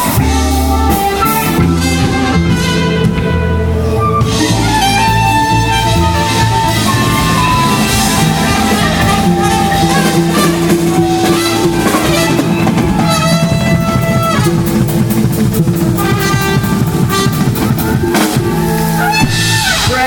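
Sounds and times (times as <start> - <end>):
drum kit: 0.0 - 20.0
guitar: 0.0 - 20.0
live band playing: 0.0 - 20.0.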